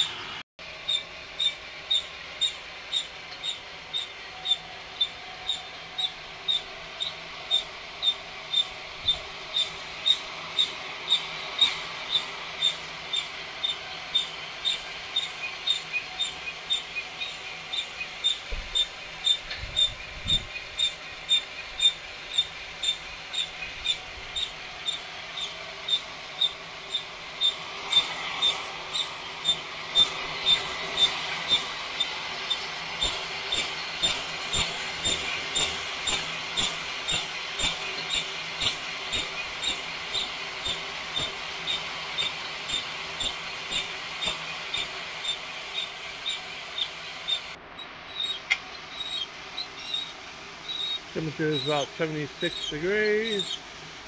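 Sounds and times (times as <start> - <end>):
flour sifter drum squeaking: 0.9 - 53.7.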